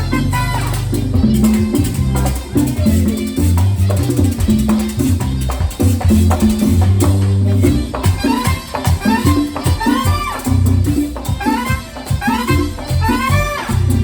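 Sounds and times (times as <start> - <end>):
guira scraping: 0.0 - 14.0
live merengue band: 0.0 - 14.0.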